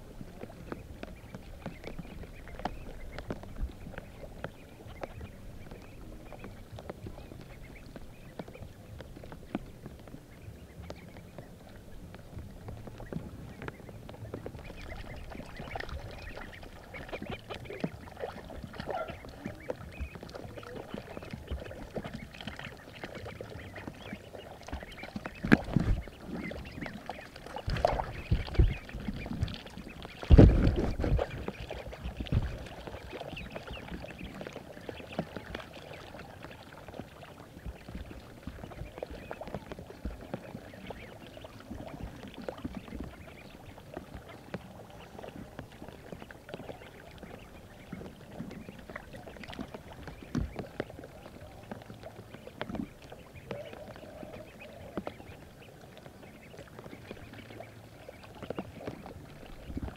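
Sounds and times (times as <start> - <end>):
ducks quacking: 0.4 - 59.9.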